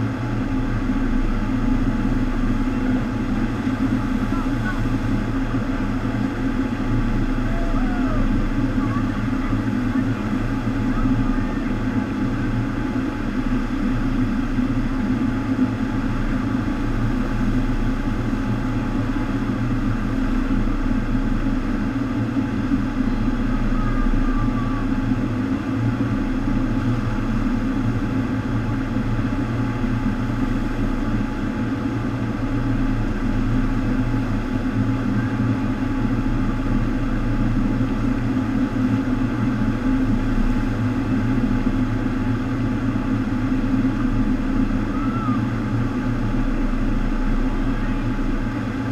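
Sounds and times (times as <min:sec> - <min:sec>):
low machine hum: 0:00.0 - 0:48.9
rush of pumped water: 0:00.0 - 0:48.9.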